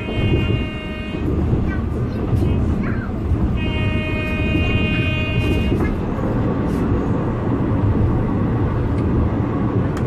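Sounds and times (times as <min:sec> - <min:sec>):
train rumbling along track: 0:00.0 - 0:10.0.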